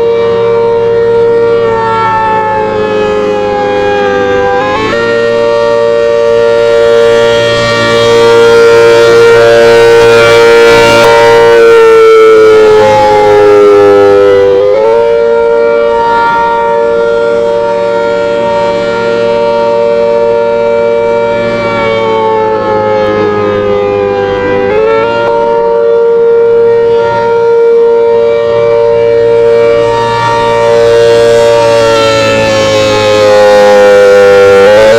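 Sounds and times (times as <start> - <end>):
warning siren: 0.0 - 34.9.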